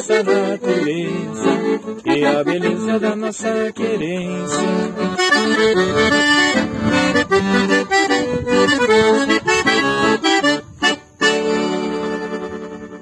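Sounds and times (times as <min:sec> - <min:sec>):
accordion playing: 0:00.0 - 0:13.0.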